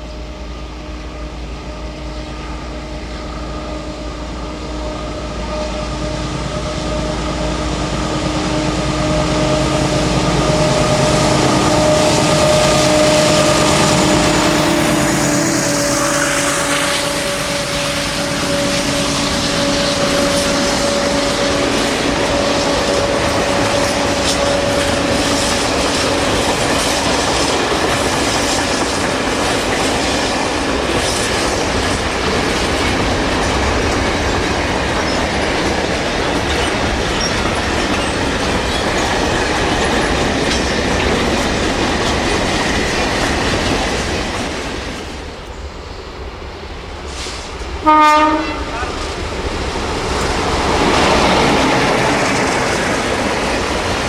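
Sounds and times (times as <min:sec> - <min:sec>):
diesel locomotive engine droning: 0:00.0 - 0:54.0
train wheels clacking over rail joints: 0:05.4 - 0:45.6, 0:47.0 - 0:54.0.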